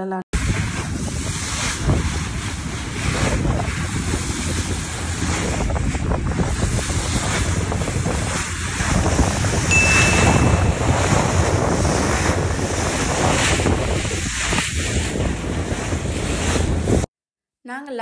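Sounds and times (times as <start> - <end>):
water rushing past boat hull: 0.4 - 17.1
wind buffeting microphone: 0.4 - 17.1.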